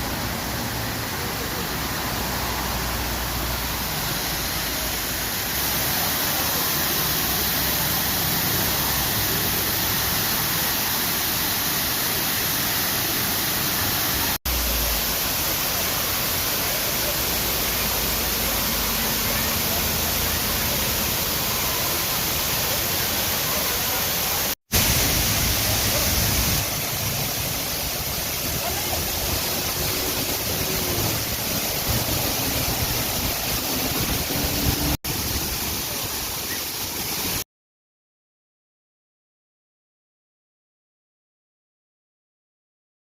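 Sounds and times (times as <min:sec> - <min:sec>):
waterfall rushing: 0:00.0 - 0:37.4.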